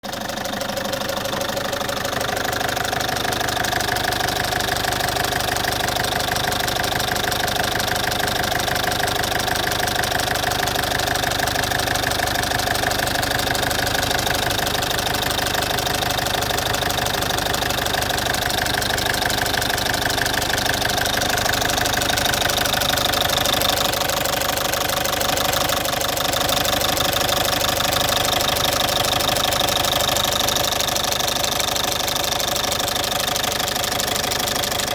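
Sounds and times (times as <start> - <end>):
diesel engine idling: 0.0 - 34.9
rapid ticking clatter: 0.0 - 34.9.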